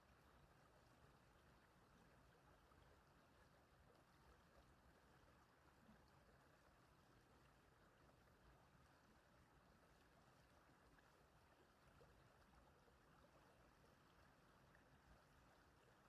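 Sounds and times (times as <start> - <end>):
faint stream running water: 0.0 - 16.0.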